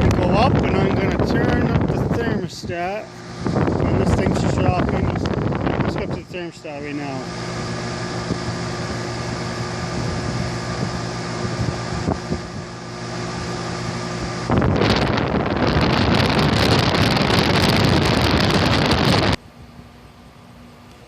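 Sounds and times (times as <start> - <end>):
air blowing on microphone: 0.0 - 19.4
air conditioner humming: 0.0 - 21.0.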